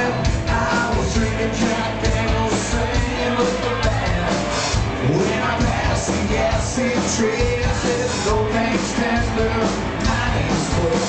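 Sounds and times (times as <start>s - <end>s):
drum kit: 0.0s - 11.0s
electric guitar: 0.0s - 11.0s.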